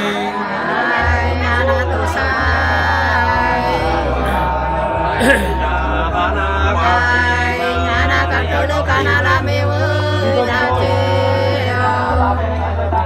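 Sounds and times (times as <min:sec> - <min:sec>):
women singing unaccompanied: 0:00.0 - 0:12.8.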